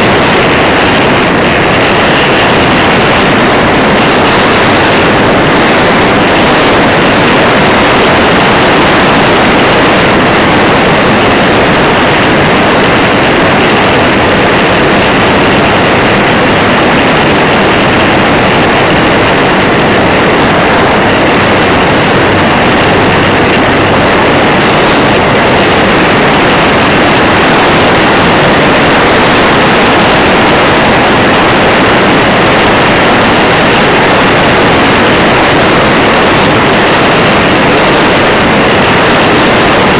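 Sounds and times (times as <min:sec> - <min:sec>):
wind blasting on microphone: 0:00.0 - 0:39.9.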